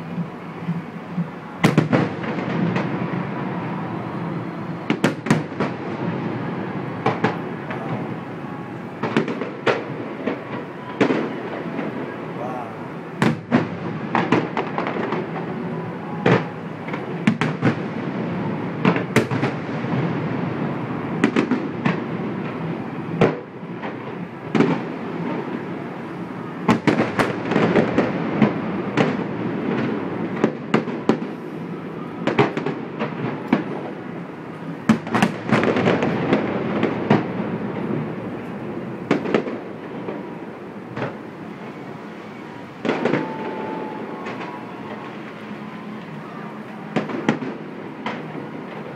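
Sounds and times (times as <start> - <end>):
fireworks bangs: 0.0 - 48.9
rumble and crackle of fireworks: 0.0 - 48.9.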